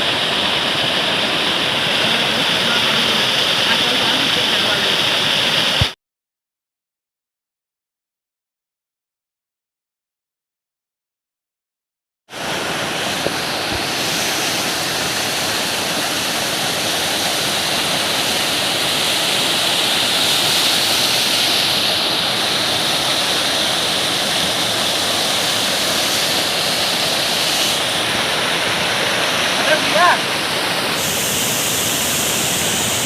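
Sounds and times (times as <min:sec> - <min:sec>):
waterfall pouring: 0:00.0 - 0:06.0, 0:12.4 - 0:33.0.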